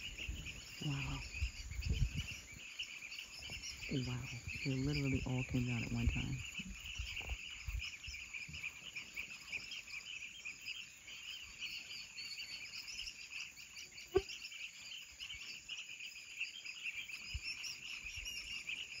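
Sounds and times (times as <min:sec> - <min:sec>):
chorus of small animals calling: 0:00.0 - 0:19.0.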